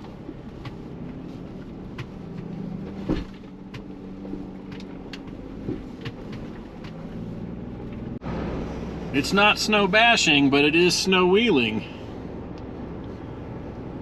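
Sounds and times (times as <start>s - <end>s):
engine low drone: 0.0s - 14.0s.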